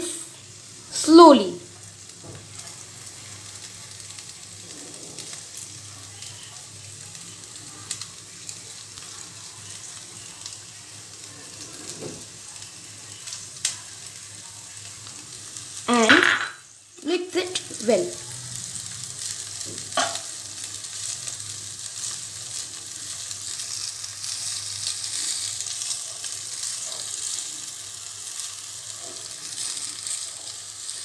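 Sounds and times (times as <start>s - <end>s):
vegetables sizzling in a wok: 0.0s - 31.0s.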